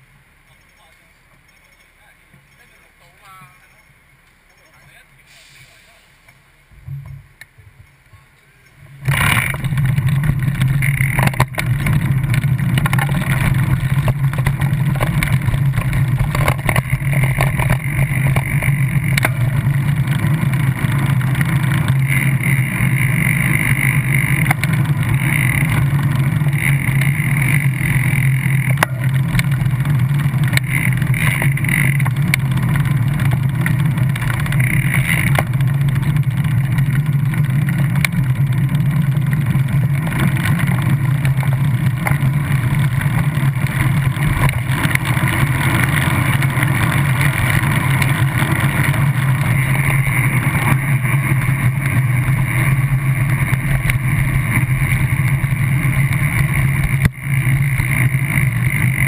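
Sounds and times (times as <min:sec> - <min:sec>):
low engine hum: 0:00.0 - 0:59.0
road traffic: 0:00.0 - 0:59.0.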